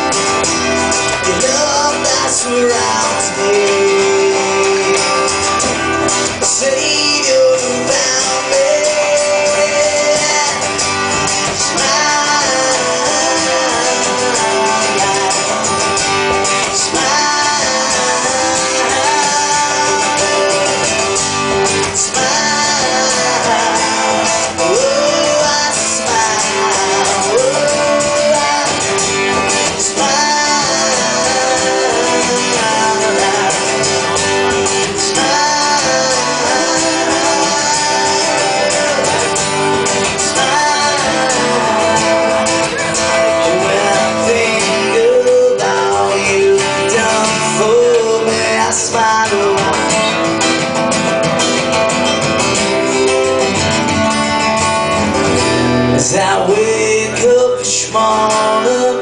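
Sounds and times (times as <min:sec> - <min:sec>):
strummed acoustic guitar: 0:00.0 - 0:59.0.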